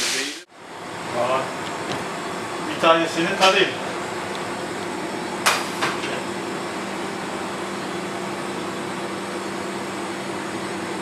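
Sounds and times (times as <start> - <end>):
extractor fan humming: 0.0 - 11.0.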